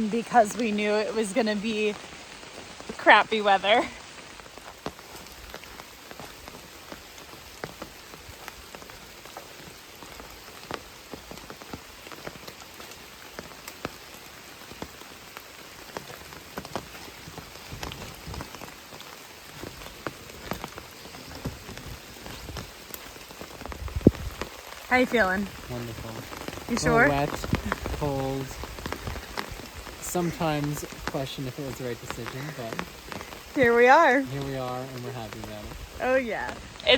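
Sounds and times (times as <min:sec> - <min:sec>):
rain falling: 0:00.0 - 0:36.9
raindrops tapping close by: 0:00.0 - 0:36.9.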